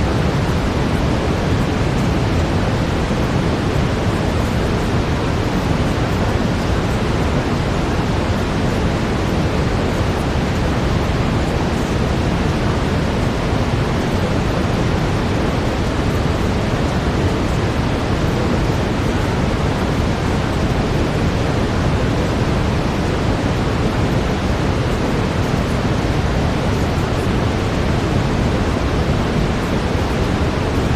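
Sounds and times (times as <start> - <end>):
brown noise hiss: 0.0 - 30.9.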